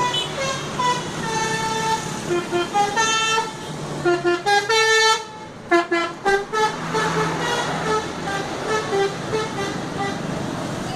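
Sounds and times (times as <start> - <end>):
musical air horn playing a tune: 0.0 - 10.2.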